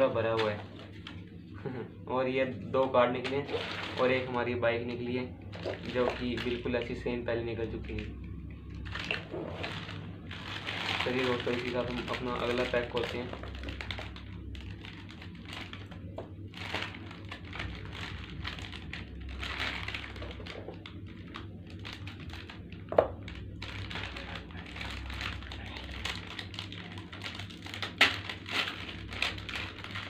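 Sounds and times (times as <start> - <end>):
plastic packet crinkling: 2.8 - 30.0.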